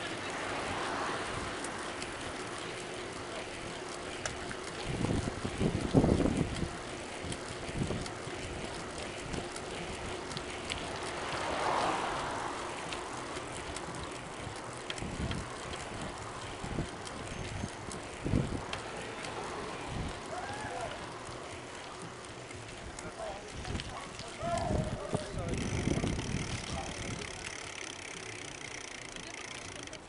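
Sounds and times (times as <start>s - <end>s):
bicycle ticks and rattles: 0.0s - 30.0s
bicycle tyres rumbling on asphalt: 0.0s - 30.0s
wind buffeting microphone: 3.6s - 18.9s, 19.8s - 29.3s.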